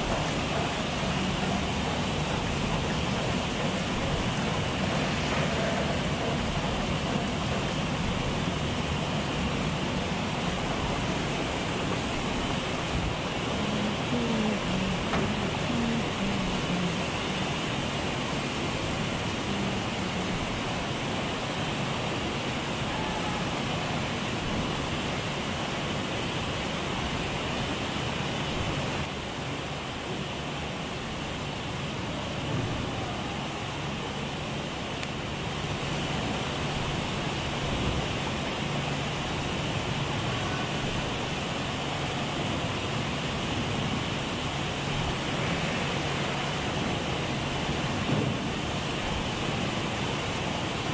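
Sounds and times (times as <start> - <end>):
machinery hiss and hum: 0.0 - 50.9.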